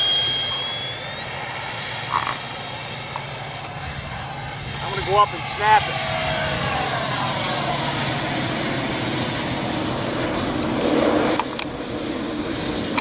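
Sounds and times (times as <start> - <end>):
jet model whine: 0.0 - 13.0.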